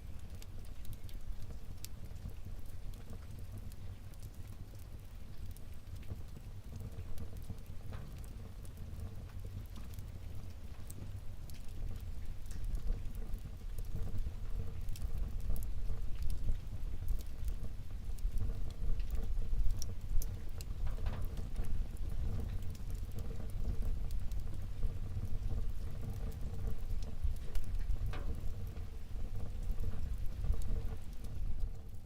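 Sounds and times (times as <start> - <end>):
fire crackling and popping: 0.0 - 32.0
fire flames rumbling: 0.0 - 32.0.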